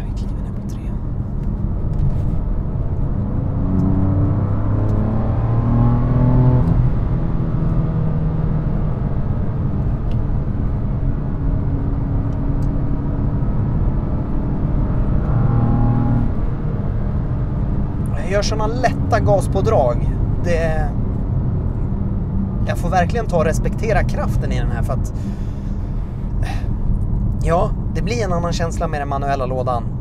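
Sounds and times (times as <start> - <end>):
car engine accelerating: 0.0 - 29.4
road noise: 0.0 - 30.0.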